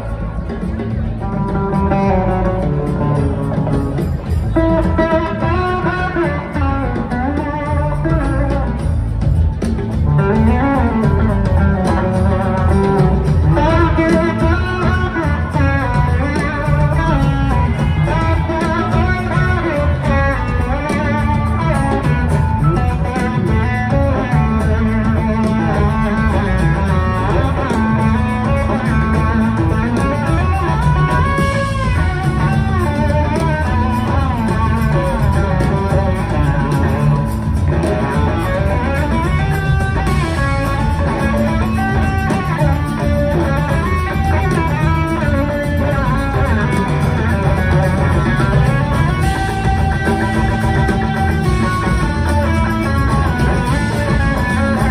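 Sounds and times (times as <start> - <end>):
bass guitar: 0.0 - 54.9
drums: 0.0 - 54.9
electric guitar lead lines: 0.0 - 54.9.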